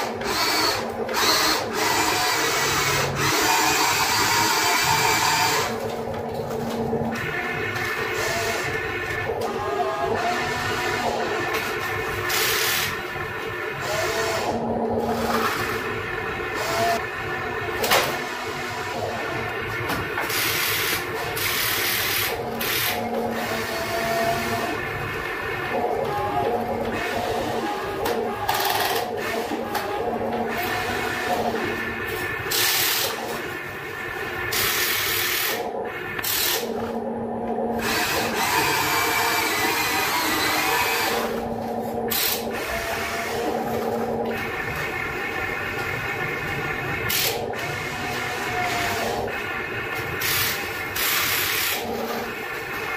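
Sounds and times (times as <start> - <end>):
electric motors whirring: 0.0 - 52.9.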